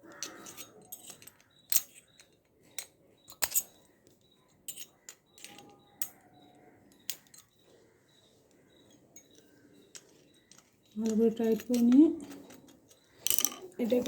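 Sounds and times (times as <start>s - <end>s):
small metallic clicks and scrapes: 0.0s - 14.0s.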